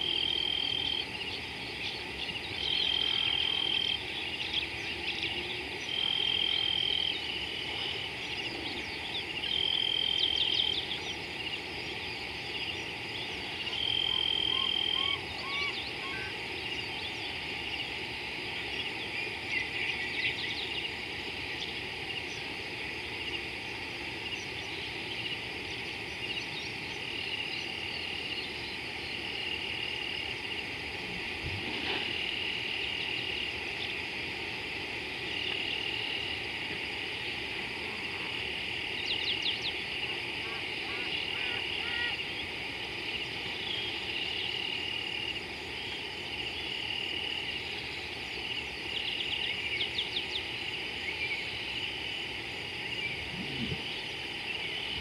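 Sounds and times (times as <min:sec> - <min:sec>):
frogs and insects chirring: 0:00.0 - 0:55.0.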